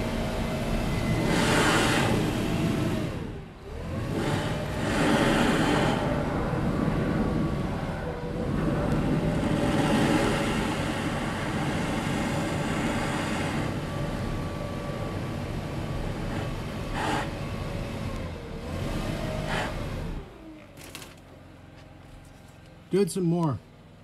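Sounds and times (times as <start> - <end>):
leaf blower engine running: 0.0 - 7.8, 8.5 - 20.2.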